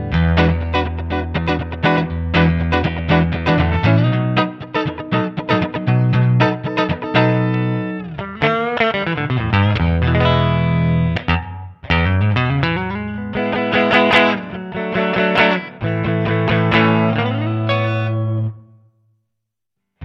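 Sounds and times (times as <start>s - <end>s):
electric guitar lead phrase: 0.0s - 18.8s.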